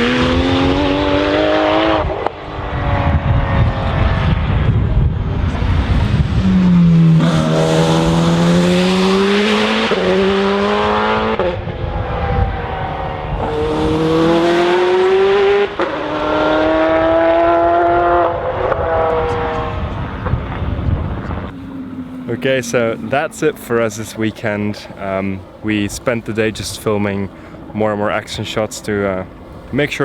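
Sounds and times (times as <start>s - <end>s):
racing car engine accelerating: 0.0s - 24.8s.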